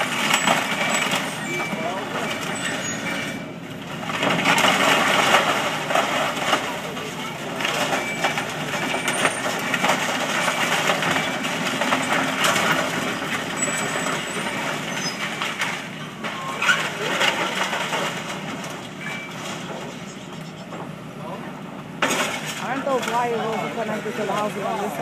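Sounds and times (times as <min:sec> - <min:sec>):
debris crunching and cracking: 0:00.0 - 0:20.0, 0:22.0 - 0:23.8.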